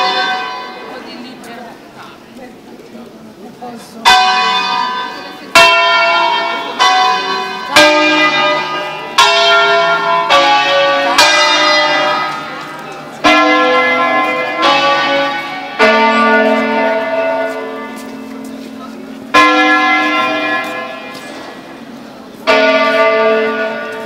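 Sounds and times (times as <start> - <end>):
church bells pealing: 0.0 - 2.2, 3.9 - 24.0.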